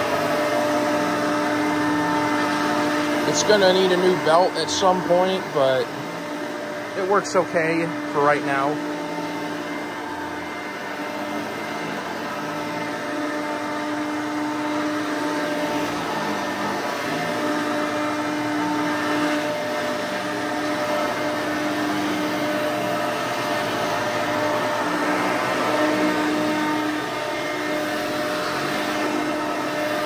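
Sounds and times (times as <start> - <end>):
vacuum cleaner whining on carpet: 0.0 - 30.0.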